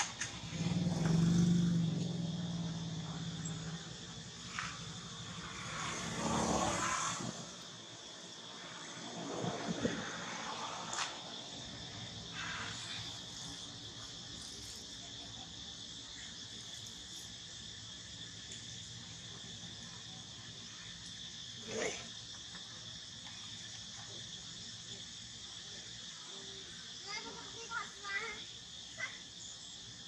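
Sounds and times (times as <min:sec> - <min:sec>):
high-pitched insect drone: 0:00.4 - 0:30.0.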